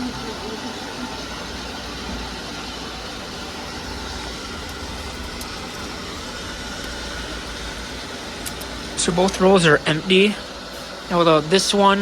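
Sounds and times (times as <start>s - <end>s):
ventilation hum and hiss: 0.0s - 12.0s.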